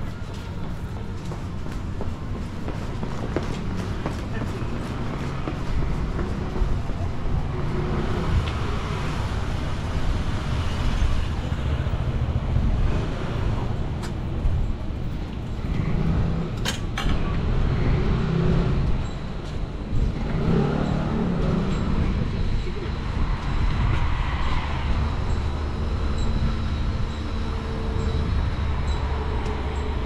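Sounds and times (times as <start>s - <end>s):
motor vehicle running: 0.0s - 30.0s.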